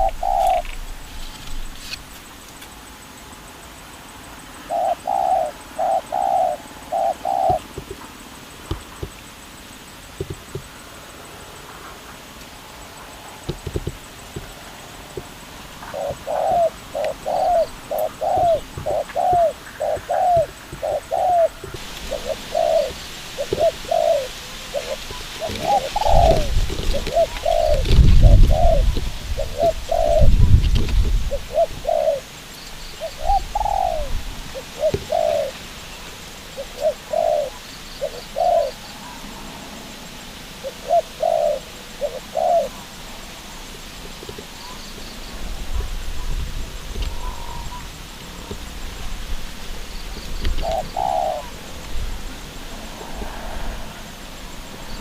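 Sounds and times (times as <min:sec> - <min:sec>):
dove cooing: 0:00.0 - 0:02.0, 0:04.5 - 0:09.4, 0:12.9 - 0:39.9, 0:40.5 - 0:55.0.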